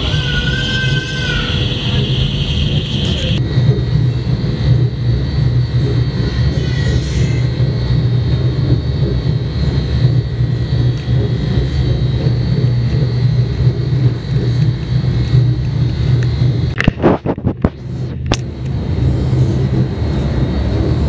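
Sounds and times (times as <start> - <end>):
high whine: 0.0 - 21.0
low mechanical drone: 0.0 - 21.0.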